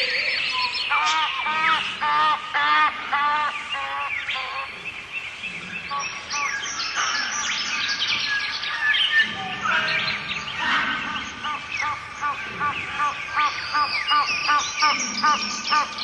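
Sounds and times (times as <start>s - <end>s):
jungle birds calling: 0.0s - 16.0s.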